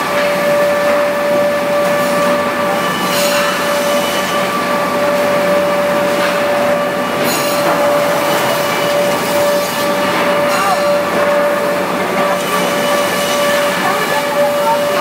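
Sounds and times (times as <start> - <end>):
planer high whine: 0.0 - 15.0.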